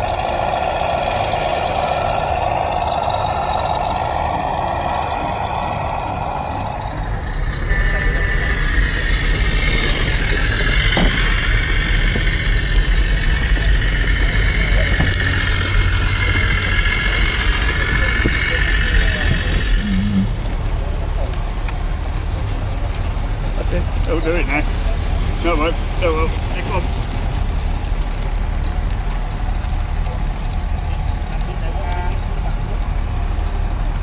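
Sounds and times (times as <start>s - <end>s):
rising whine: 0.0s - 31.8s
truck engine running: 0.0s - 34.0s.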